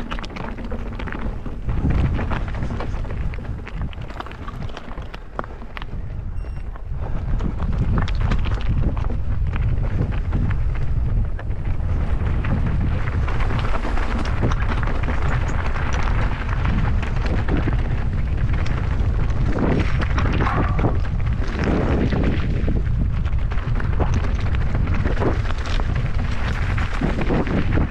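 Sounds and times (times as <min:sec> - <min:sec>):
bike clicks and rattles: 0:00.0 - 0:27.9
tyre rumble: 0:00.0 - 0:27.9
wind buffeting microphone: 0:00.0 - 0:27.9.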